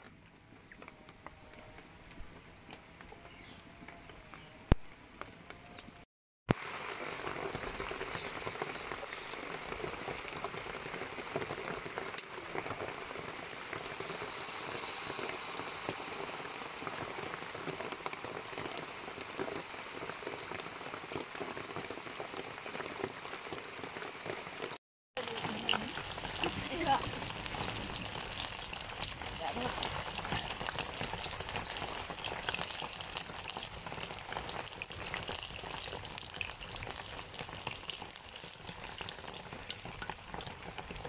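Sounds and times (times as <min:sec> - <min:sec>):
deep-frying sizzle and crackle: 0:06.5 - 0:41.0.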